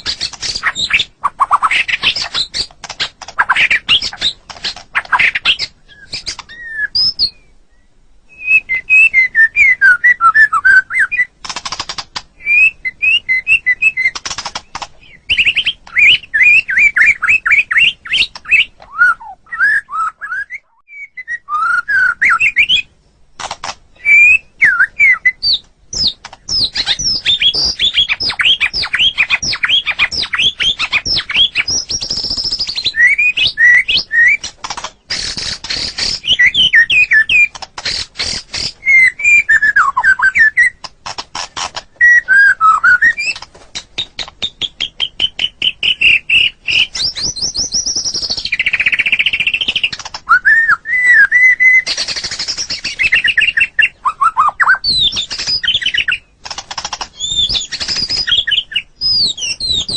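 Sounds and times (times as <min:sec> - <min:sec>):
bird singing whistled phrases: 0:05.0 - 0:11.3, 0:12.4 - 0:14.2, 0:15.0 - 0:22.9, 0:23.9 - 0:34.5, 0:35.1 - 0:40.8, 0:42.0 - 0:43.4, 0:44.4 - 0:56.2, 0:57.2 - 0:59.9.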